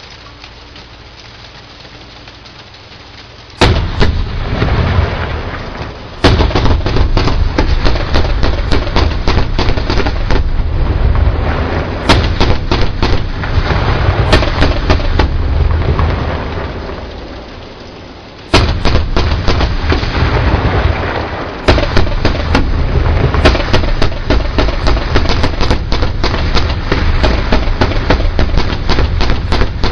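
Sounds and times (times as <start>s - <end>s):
heavy rumble: 0.0s - 29.9s.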